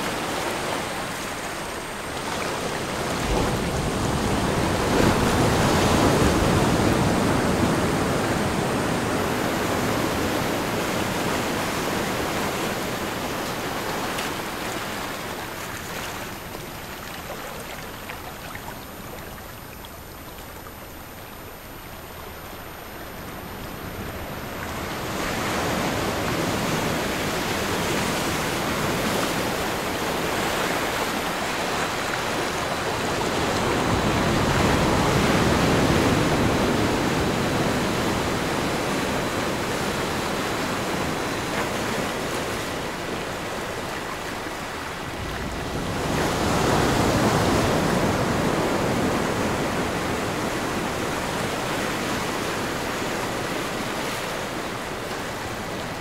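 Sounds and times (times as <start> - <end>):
ocean waves rushing: 0.0 - 56.0.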